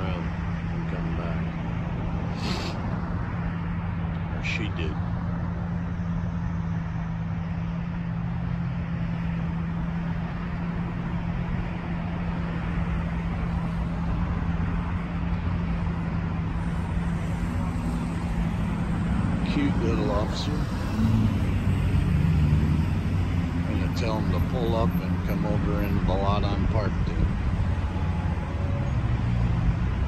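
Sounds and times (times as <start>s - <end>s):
low engine hum: 0.0s - 30.0s
road traffic noise: 0.0s - 30.0s.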